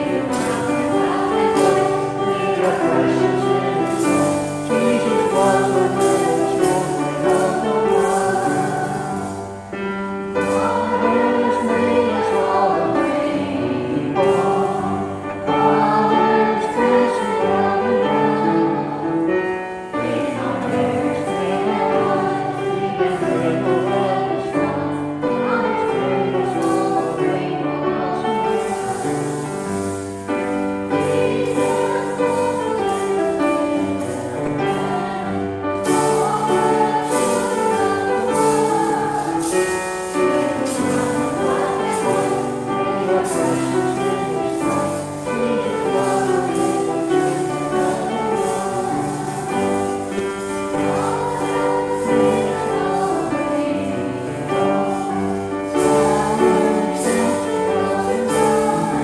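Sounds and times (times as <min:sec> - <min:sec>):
church music with singing voices: 0:00.0 - 0:59.0.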